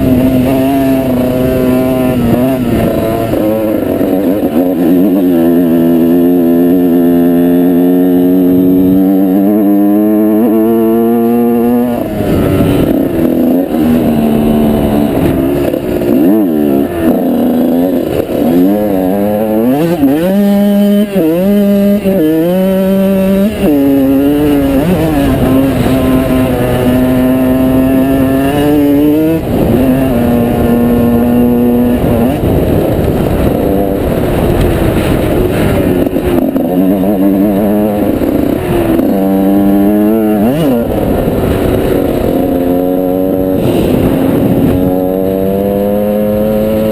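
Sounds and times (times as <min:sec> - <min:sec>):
motorbike engine revving: 0:00.0 - 0:46.9.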